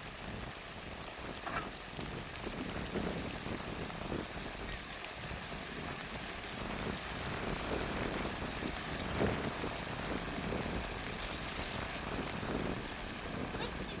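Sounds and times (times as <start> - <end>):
heavy rain on ground: 0.0 - 14.0.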